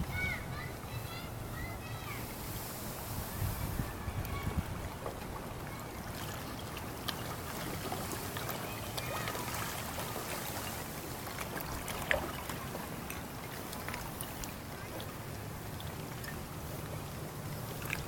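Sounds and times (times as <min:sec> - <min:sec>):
water sloshing: 0:02.4 - 0:18.0.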